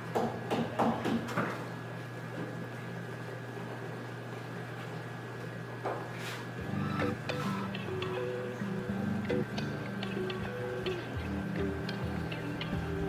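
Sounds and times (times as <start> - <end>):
steady low hum: 1.8 - 13.0.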